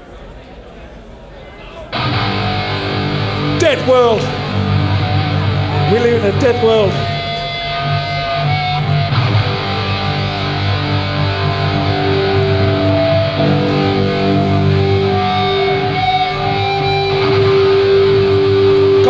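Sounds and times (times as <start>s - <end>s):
loud electric guitar chords: 1.9s - 19.0s.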